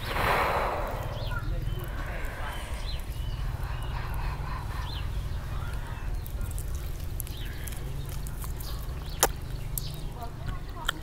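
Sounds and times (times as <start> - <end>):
steady low rumble: 0.0 - 10.2
birds chirping: 0.0 - 11.0.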